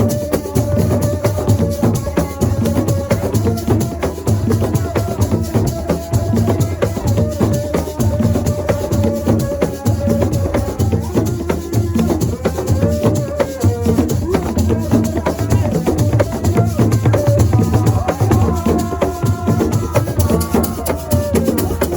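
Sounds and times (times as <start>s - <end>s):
fast dense percussion: 0.0s - 21.9s.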